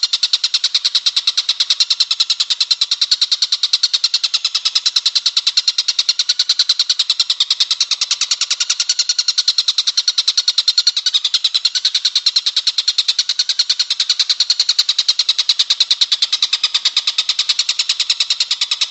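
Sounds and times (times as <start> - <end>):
kingfisher rattling call: 0.0 - 18.9.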